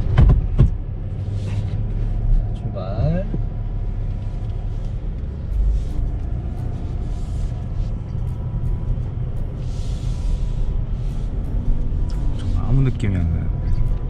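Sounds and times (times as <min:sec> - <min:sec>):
pickup truck rumble: 0:00.0 - 0:14.0.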